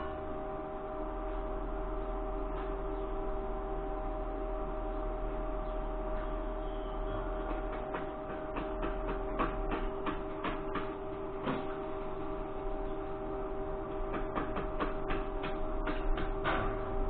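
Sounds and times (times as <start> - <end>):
workshop machine hum: 0.0 - 17.0.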